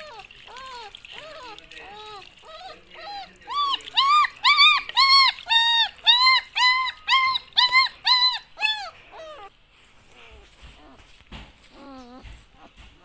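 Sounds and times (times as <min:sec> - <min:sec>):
dog whining: 0:00.0 - 0:13.0.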